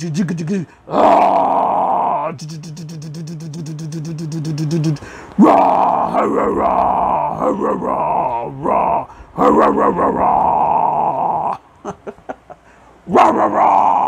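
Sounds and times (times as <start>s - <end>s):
man growling: 0.9s - 11.6s, 13.1s - 14.0s.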